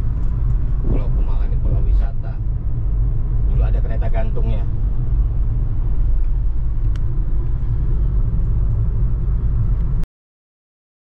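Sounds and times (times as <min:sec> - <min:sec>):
car driving rumble: 0:00.0 - 0:10.0.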